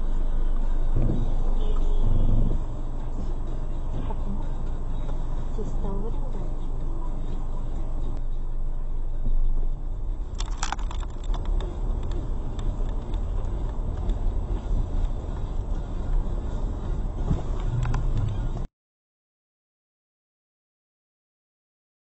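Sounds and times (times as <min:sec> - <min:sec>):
road and engine rumble: 0:00.0 - 0:18.7.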